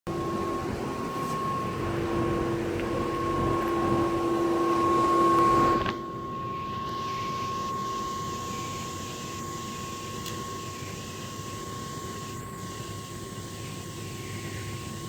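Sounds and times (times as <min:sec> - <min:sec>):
air conditioner fan humming: 0:00.1 - 0:15.0.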